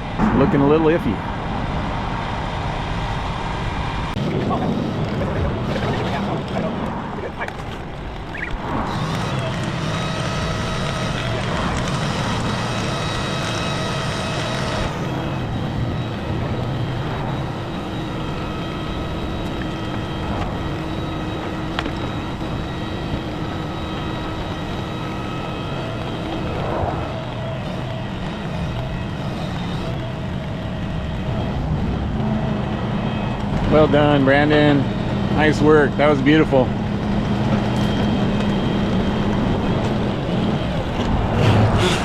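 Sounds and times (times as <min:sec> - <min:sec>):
heavy equipment engine droning: 0:00.0 - 0:42.0
steady whine: 0:00.0 - 0:42.0.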